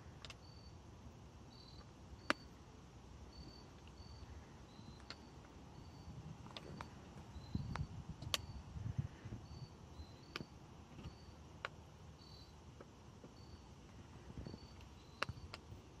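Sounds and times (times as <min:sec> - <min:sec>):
faint cricket chirping: 0:00.0 - 0:16.0.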